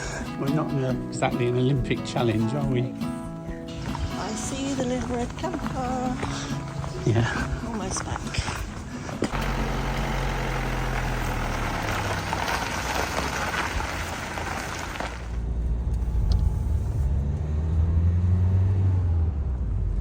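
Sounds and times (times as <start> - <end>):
van engine hum: 0.0 - 20.0.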